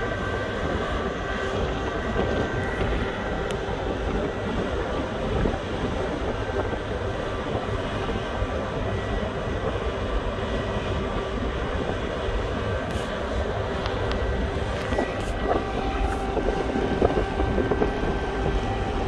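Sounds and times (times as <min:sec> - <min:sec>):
ship machinery rumble: 0:00.0 - 0:19.0.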